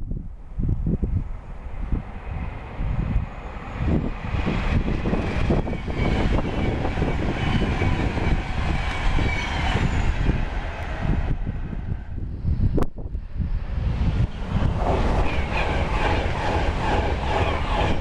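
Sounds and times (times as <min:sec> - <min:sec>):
wind buffeting microphone: 0:00.0 - 0:18.0
train passing at speed: 0:00.8 - 0:18.0.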